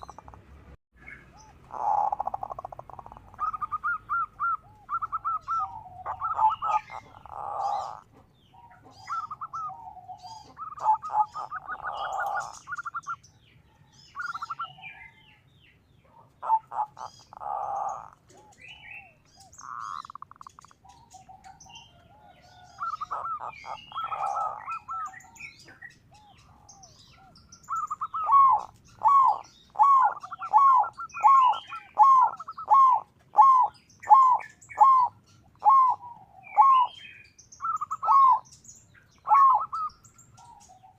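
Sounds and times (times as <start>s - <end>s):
small birds chirping: 0.0s - 40.9s
dove cooing: 1.0s - 15.4s, 16.0s - 38.5s, 39.1s - 40.9s.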